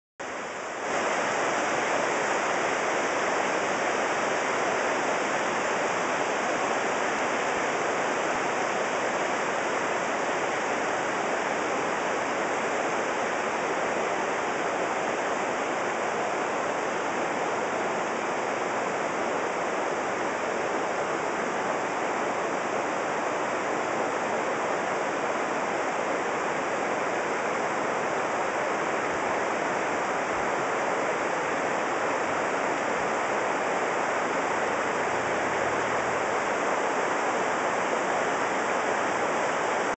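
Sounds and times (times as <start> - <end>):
river rushing over boulders: 0.2 - 39.9.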